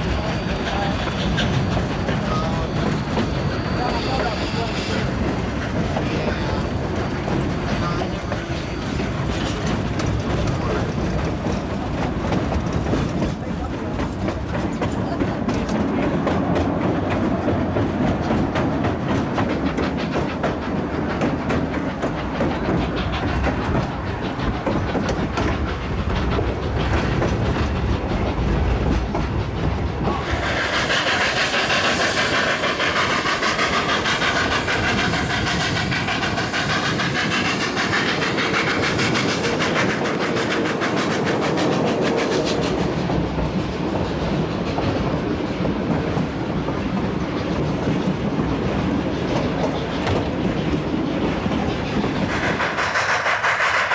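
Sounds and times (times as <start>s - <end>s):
train wheels clattering over rails: 0.0s - 53.9s.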